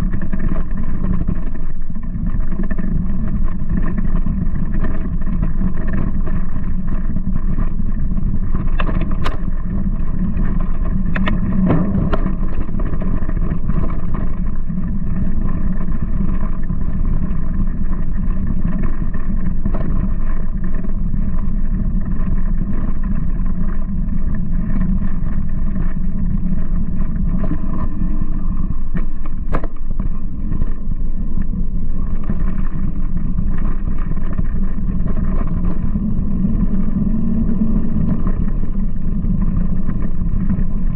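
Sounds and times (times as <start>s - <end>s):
bike rolling over dirt trail: 0.0s - 40.9s.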